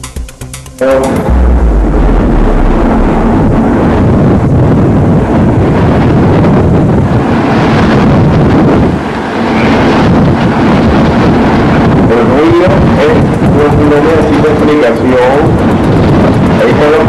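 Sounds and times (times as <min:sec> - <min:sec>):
strong wind buffeting microphone: 0:00.8 - 0:17.0.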